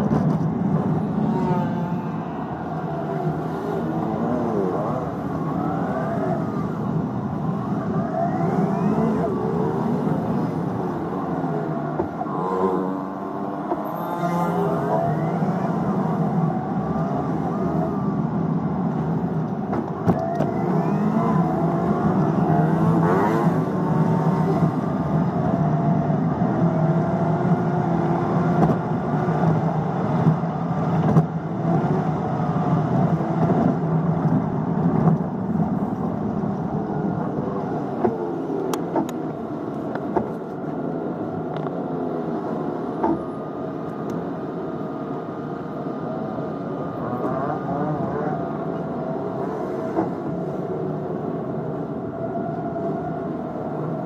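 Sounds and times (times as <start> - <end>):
nearby vehicle engines: 0.0 - 54.0.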